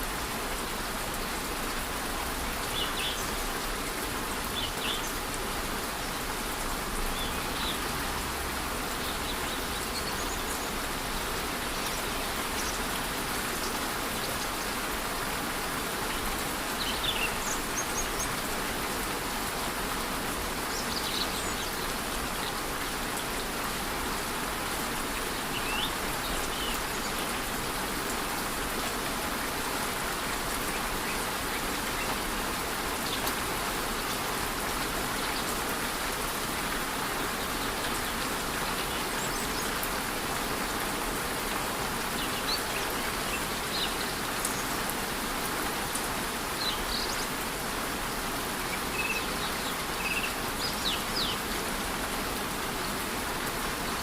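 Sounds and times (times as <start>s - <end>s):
light rain falling: 0.0s - 54.0s
waterfall rushing: 0.0s - 54.0s.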